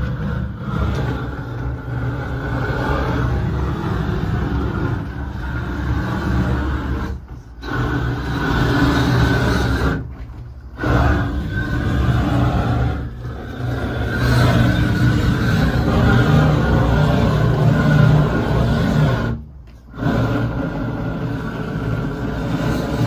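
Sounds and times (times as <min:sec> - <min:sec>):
roofing torch flame rushing: 0:00.0 - 0:23.0.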